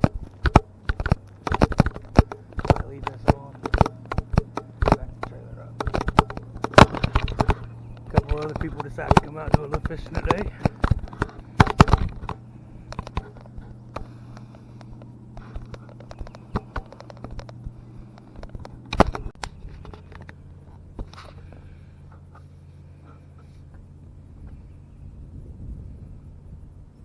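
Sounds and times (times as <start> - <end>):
small clicks and rattles: 0.0 - 21.7
vehicle engine idling: 0.0 - 27.0.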